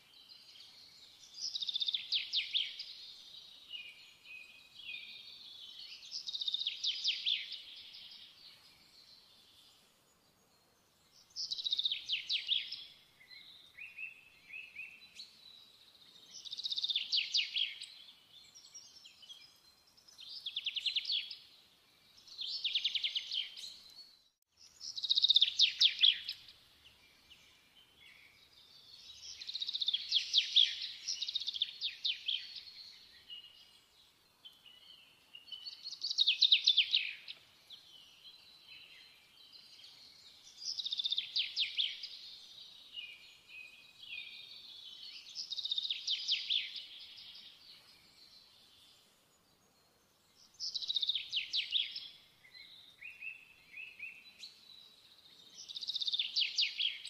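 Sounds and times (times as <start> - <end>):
songbird chirping trills: 0.0 - 57.0.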